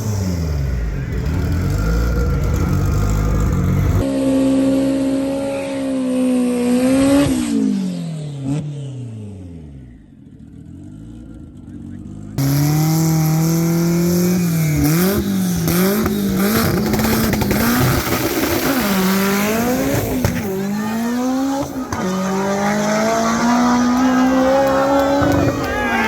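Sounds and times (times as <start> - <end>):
race car engine revving: 0.0 - 9.1, 11.2 - 26.0.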